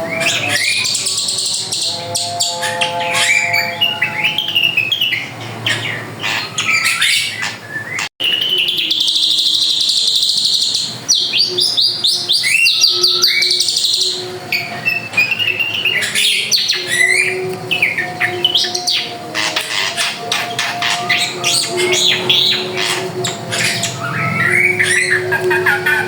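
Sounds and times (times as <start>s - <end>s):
bird singing whistles and chirps: 0.0s - 26.0s.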